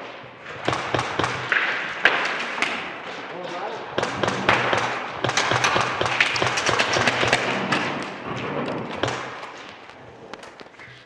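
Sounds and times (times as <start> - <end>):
airsoft guns firing: 0.0 - 9.8.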